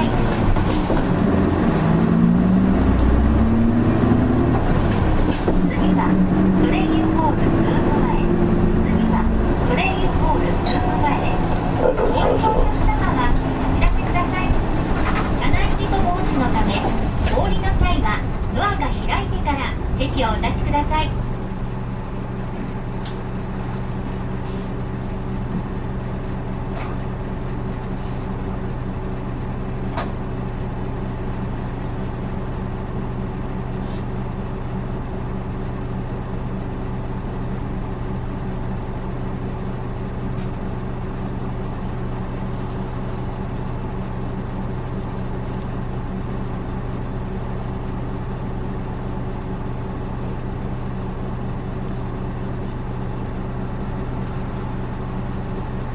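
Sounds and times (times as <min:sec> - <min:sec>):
bus diesel engine humming: 0:00.0 - 0:55.9.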